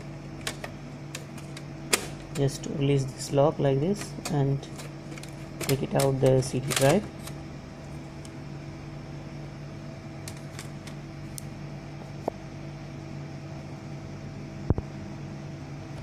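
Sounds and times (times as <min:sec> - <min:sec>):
computer cooling fans humming: 0:00.0 - 0:16.0.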